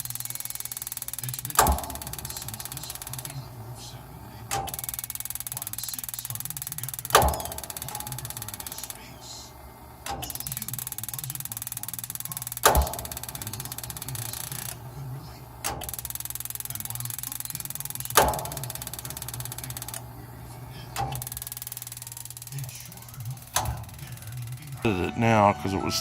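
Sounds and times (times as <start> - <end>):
rapid ticking buzz: 0.0 - 25.4
furnace humming: 0.0 - 26.0.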